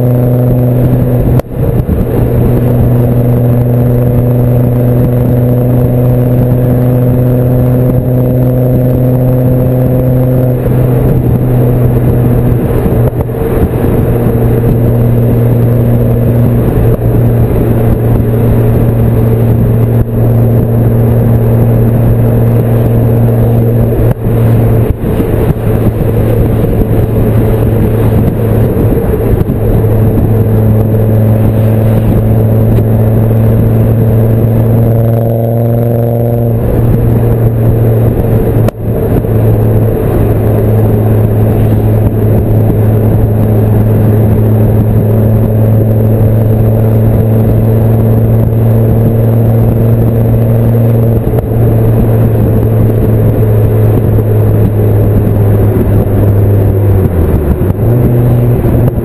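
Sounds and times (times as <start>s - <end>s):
car engine at cruising revs: 0.0s - 59.0s.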